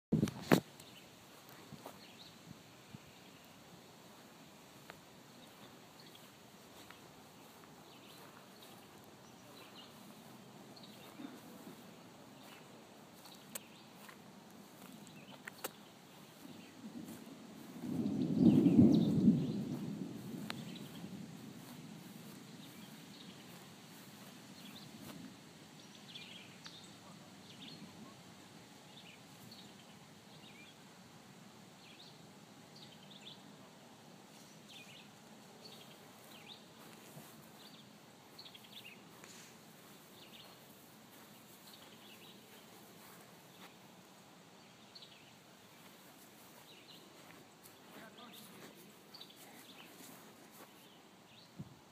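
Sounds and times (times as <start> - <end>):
low background hiss: 0.2 - 51.9.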